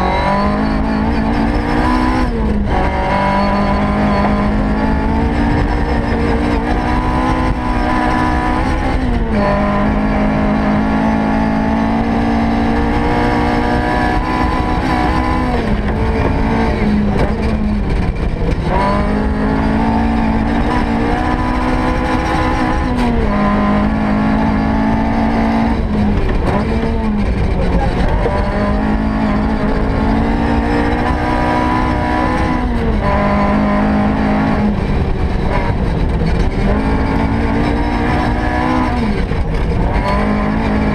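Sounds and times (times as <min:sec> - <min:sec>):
rally car engine at high revs: 0:00.0 - 0:40.9.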